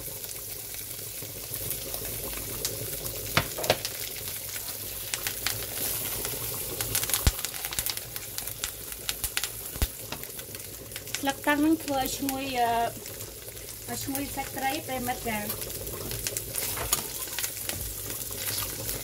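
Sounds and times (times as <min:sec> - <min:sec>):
fish frying in butter: 0:00.0 - 0:19.0.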